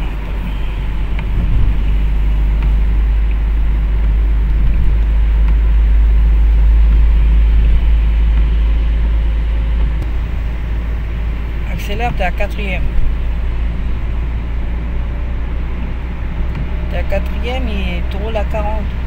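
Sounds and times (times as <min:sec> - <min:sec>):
car road noise on wet road: 0:00.0 - 0:19.0.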